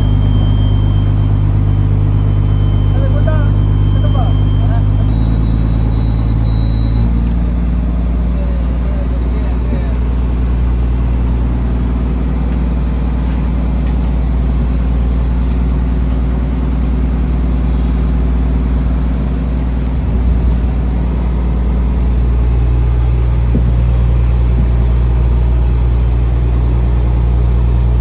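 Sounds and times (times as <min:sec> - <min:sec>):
diesel engine droning: 0:00.0 - 0:28.0
faint high whine: 0:00.0 - 0:28.0.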